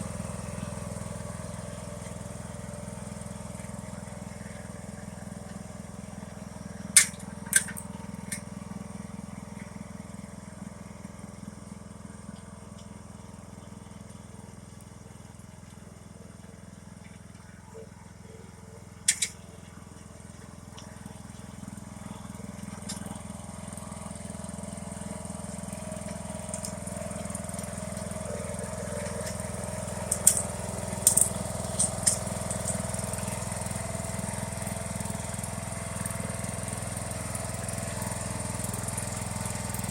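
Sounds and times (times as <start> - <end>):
lawn tractor running: 0.0 - 39.9.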